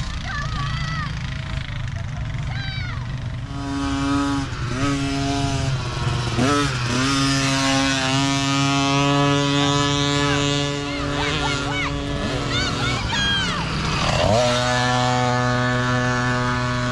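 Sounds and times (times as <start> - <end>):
dirt bike engines revving: 0.0 - 16.9
lower engine running: 0.0 - 16.9.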